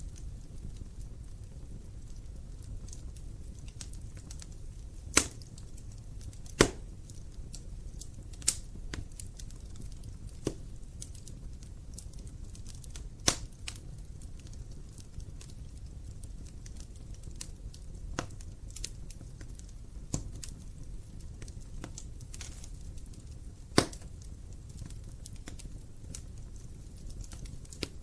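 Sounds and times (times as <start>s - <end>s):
fire rumbling and crackling: 0.0s - 28.0s
loud pops of burning logs: 0.0s - 28.0s.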